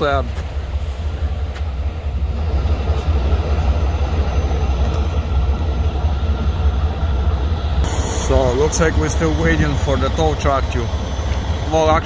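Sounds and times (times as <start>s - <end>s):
diesel trucks idling: 0.0s - 12.0s.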